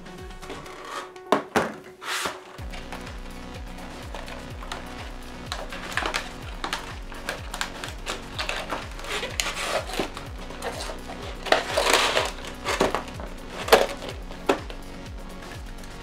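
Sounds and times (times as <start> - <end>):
background music with kick drum: 0.0 - 1.9, 2.5 - 16.0
plastic packaging crinkling: 2.4 - 16.0.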